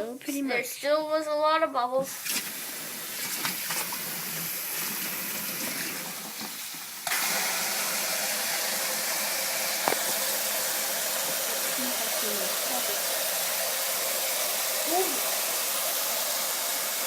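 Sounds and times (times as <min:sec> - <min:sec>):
water running from tap into sink: 0:02.0 - 0:17.0.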